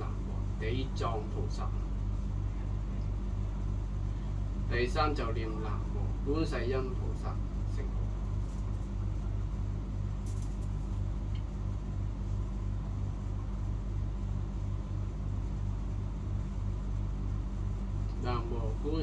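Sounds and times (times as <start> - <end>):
low throbbing machine hum: 0.0 - 19.0.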